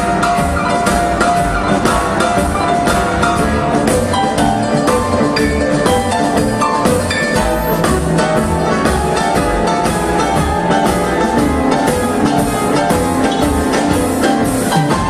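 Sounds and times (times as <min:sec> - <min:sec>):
drums: 0:00.0 - 0:15.0
keyboard: 0:00.0 - 0:15.0
upright bass: 0:00.0 - 0:15.0.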